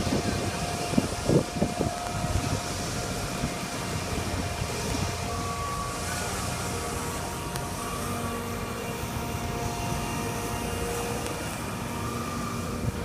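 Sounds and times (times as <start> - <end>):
faint steady whine: 0.0 - 13.0
heavy machinery engine drone: 0.0 - 13.0.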